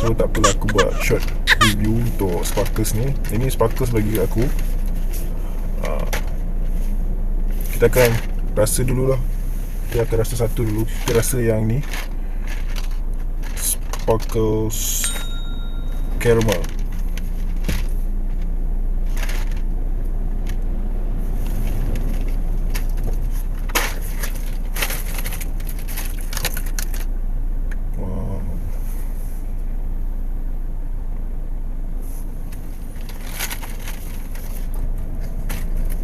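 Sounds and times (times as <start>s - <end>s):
car idling hum: 0.0s - 14.0s, 15.6s - 36.0s.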